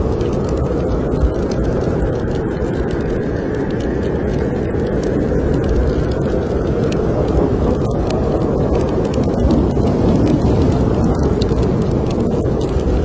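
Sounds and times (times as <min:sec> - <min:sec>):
wind roaring: 0:00.0 - 0:13.0
wood fire crackling: 0:00.0 - 0:13.0.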